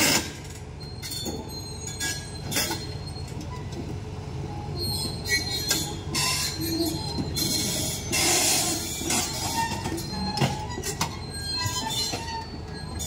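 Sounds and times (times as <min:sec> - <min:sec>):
steel squealing on steel: 0:00.0 - 0:03.7, 0:04.8 - 0:13.0
excavator diesel engine running: 0:00.0 - 0:13.0.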